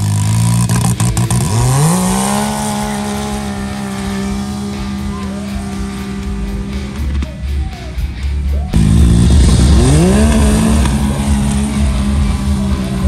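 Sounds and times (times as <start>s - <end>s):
utility vehicle engines accelerating: 0.0s - 13.0s.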